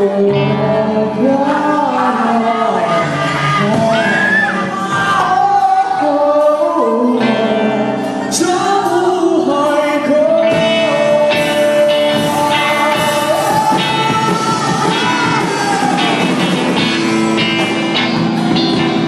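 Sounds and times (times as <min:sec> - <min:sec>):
man singing: 0:00.0 - 0:17.6
bass guitar: 0:00.0 - 0:19.0
drums: 0:00.0 - 0:19.0
electric guitar: 0:00.0 - 0:19.0.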